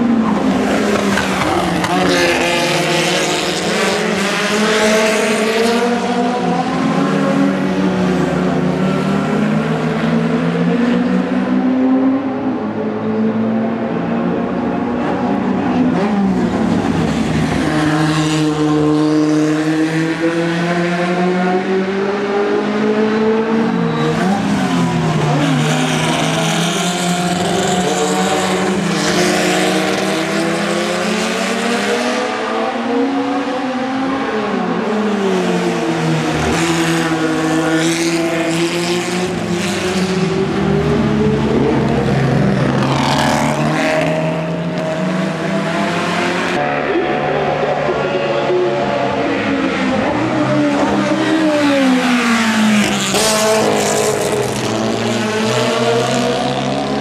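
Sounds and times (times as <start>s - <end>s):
race cars racing past: 0.0s - 57.0s.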